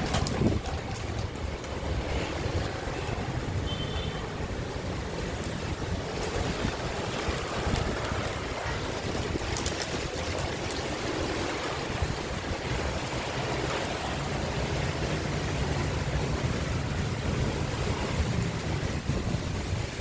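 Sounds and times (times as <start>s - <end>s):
heavy rain: 0.0s - 20.0s
strong wind: 0.0s - 20.0s
wind rumbling on microphone: 0.0s - 20.0s.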